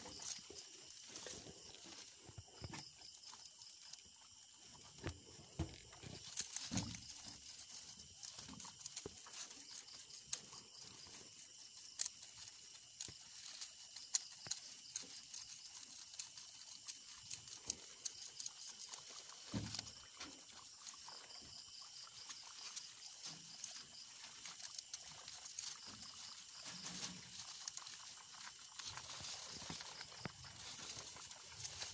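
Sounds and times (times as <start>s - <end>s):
crisp crunching and rustling: 0.0s - 31.9s
guinea pigs chewing grass: 0.0s - 31.9s.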